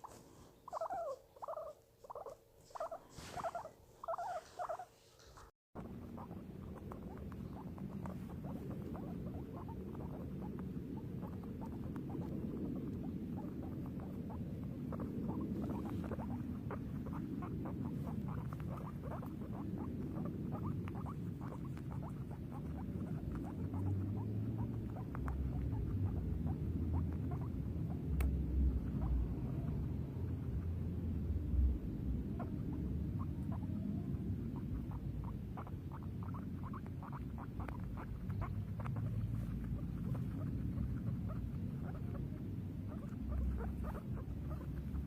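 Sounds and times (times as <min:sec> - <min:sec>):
guinea pig squeaking: 0:00.0 - 0:45.0
low background rumble: 0:05.2 - 0:45.0.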